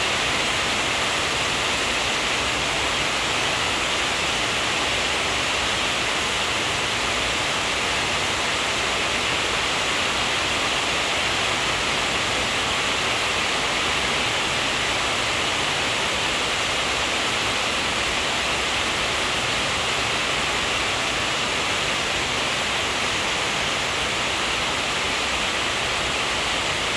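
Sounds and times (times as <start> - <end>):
steady hiss: 0.0 - 26.9.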